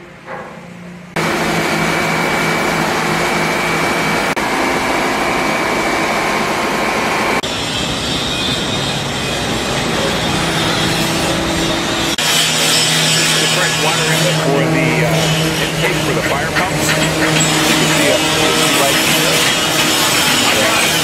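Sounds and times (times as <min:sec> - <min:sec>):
constant high whine: 0:00.0 - 0:21.0
generator engines droning: 0:00.0 - 0:21.0.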